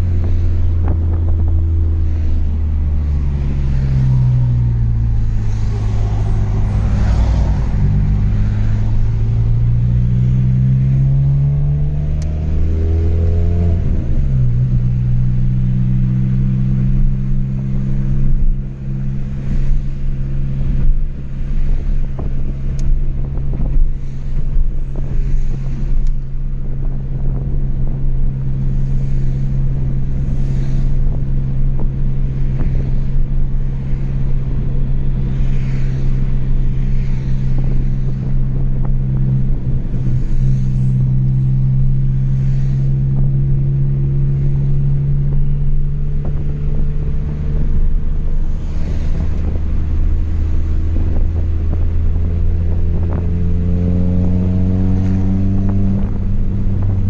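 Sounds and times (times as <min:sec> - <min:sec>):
car engine cruising drone: 0:00.0 - 0:57.0.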